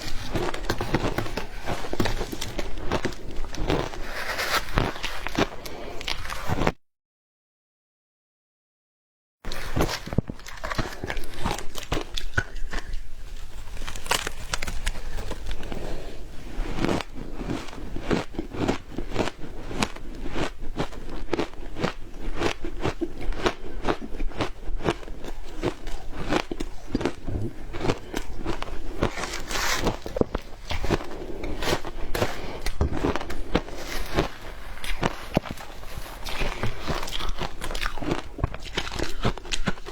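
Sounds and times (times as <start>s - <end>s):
ice crunching while chewed: 0.0s - 6.8s, 9.5s - 39.9s.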